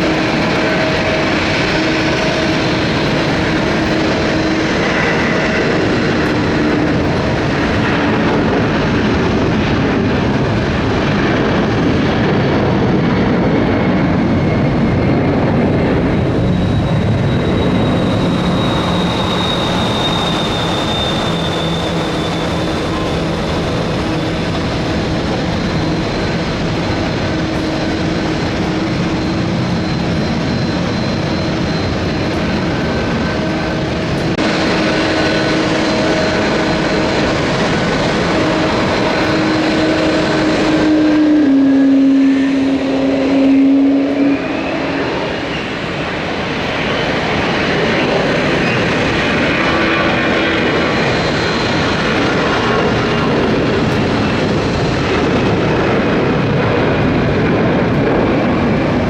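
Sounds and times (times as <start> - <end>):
jet engine whine: 0.0 - 59.0
jet engines at takeoff thrust: 0.0 - 59.0.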